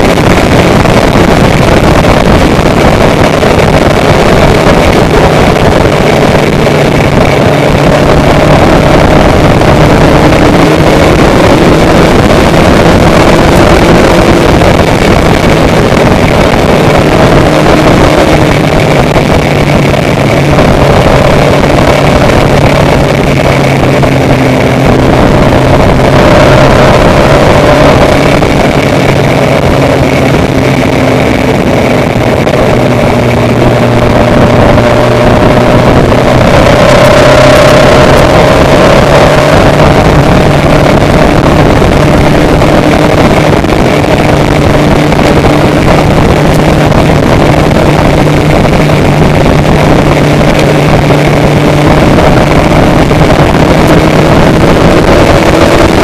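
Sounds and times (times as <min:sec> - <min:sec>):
engine running with low hum: 0:00.0 - 0:56.0.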